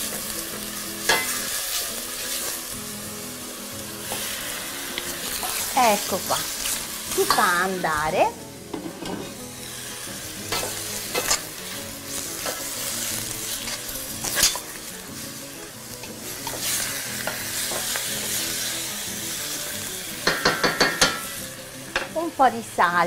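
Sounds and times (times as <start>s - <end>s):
cuttlefish sizzling in hot oil: 0.0s - 23.0s.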